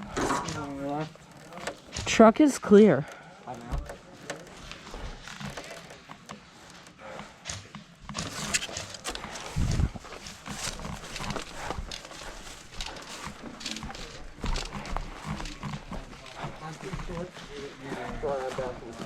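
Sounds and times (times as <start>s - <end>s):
footsteps: 0.0s - 19.0s
gear rattling: 0.0s - 19.0s.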